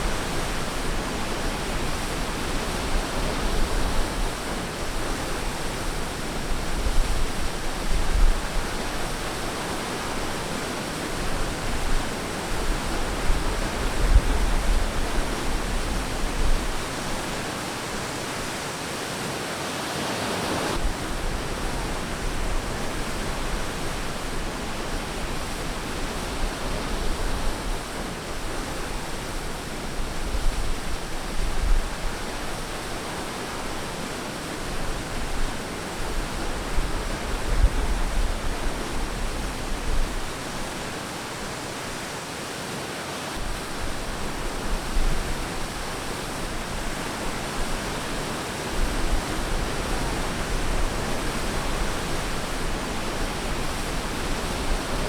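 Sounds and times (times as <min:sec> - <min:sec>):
ocean waves washing on beach: 0:00.0 - 0:55.0.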